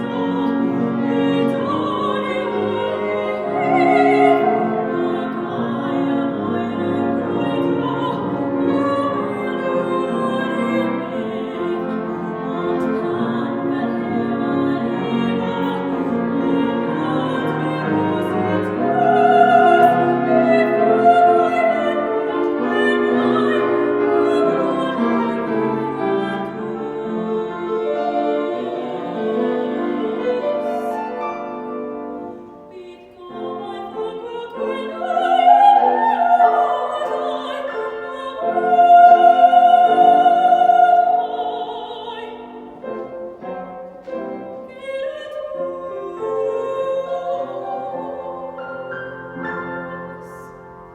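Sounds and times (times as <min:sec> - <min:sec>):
classical singer with vibrato: 0:00.0 - 0:50.9
piano accompaniment: 0:00.0 - 0:50.9.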